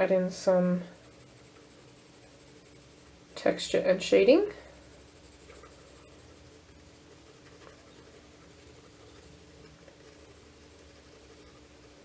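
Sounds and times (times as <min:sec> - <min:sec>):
faint hum: 0:00.0 - 0:12.0
pencil scratching on paper: 0:00.0 - 0:12.0.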